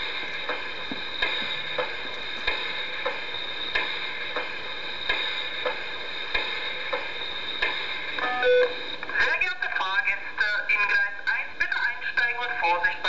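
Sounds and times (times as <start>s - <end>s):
model steam locomotive hiss and beat: 0.0s - 13.0s.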